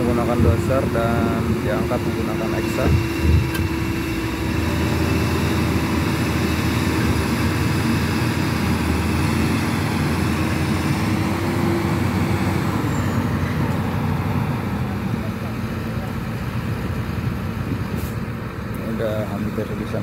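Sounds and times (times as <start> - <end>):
dump truck diesel engine: 0.0 - 20.0
excavator diesel engine: 0.0 - 20.0.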